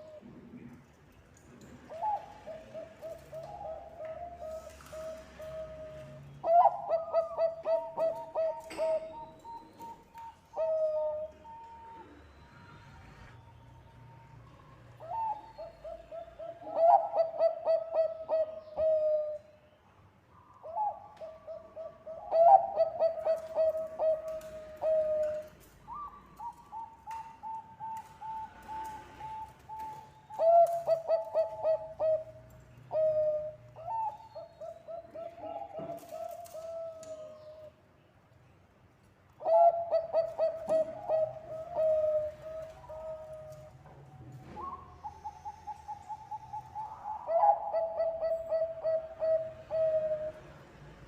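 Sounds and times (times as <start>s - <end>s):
dove cooing: 0.0s - 0.7s, 1.9s - 13.4s, 15.0s - 19.4s, 20.6s - 37.7s, 39.4s - 50.6s.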